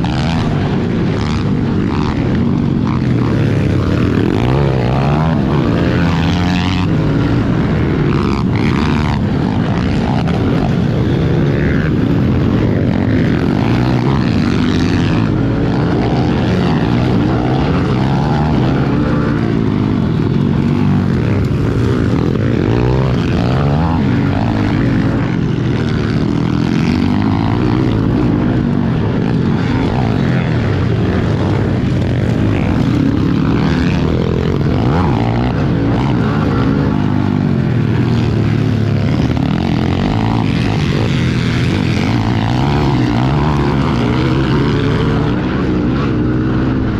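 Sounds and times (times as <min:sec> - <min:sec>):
small motorbike engine revving: 0:00.0 - 0:46.9.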